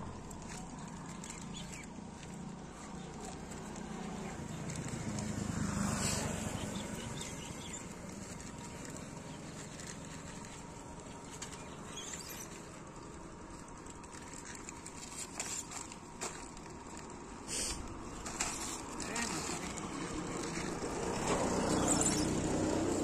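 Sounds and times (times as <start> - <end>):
plastic snack packets crinkling: 0.1 - 5.5, 7.2 - 21.6.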